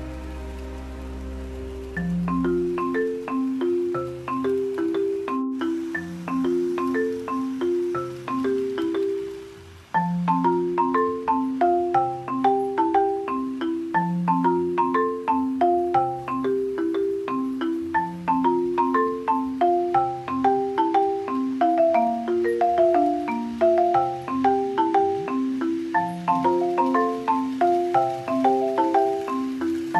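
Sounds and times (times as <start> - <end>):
marimba music with bass line: 0.0 - 29.9.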